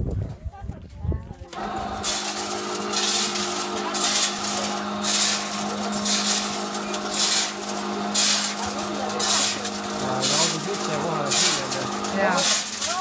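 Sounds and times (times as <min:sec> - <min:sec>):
machine motor hum: 0:01.6 - 0:13.0.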